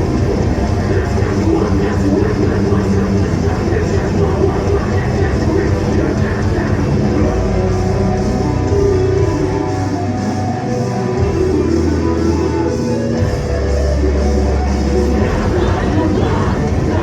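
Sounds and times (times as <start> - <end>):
low bass notes: 0.0 - 17.0
rock band playing live: 0.0 - 17.0.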